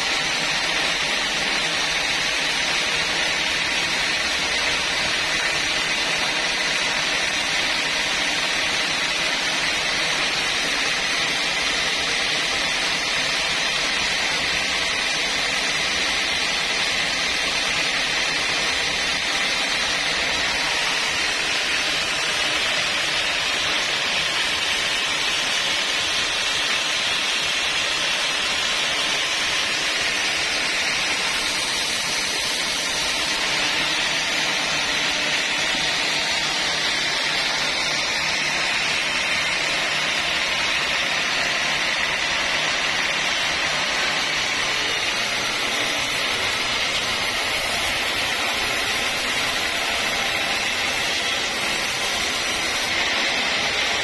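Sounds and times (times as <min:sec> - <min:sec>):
band saw whirring: 0:00.0 - 0:54.0.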